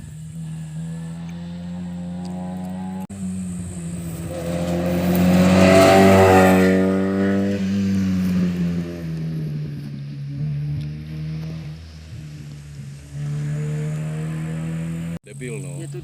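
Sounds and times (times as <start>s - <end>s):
rally car passing at speed: 0.0s - 15.2s.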